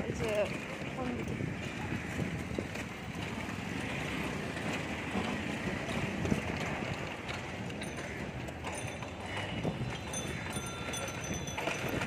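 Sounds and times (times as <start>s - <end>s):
busy street traffic: 0.0s - 12.0s
rickshaws passing close: 0.0s - 12.0s.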